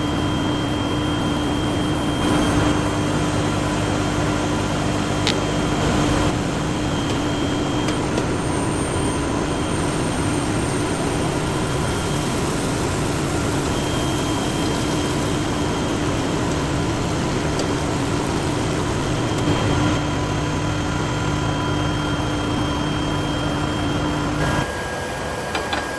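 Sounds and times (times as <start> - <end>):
machine hum: 0.0 - 25.9.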